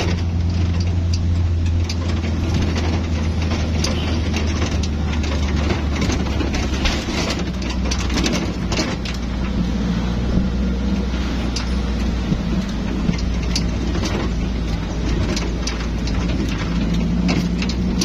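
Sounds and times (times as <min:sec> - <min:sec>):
light clicks and rattles: 0:00.0 - 0:18.0
vehicle engine hum: 0:00.0 - 0:18.0.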